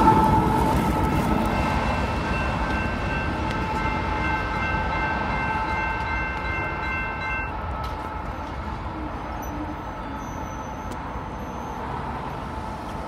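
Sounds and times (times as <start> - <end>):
crossing warning bell ringing: 0.0 - 12.0
train rumbling: 0.0 - 13.0.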